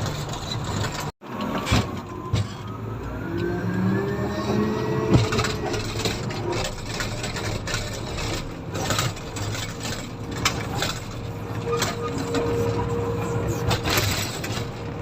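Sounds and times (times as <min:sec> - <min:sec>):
rattles and clatters: 0:00.0 - 0:02.7, 0:04.4 - 0:15.0
diesel engine running: 0:00.0 - 0:15.0.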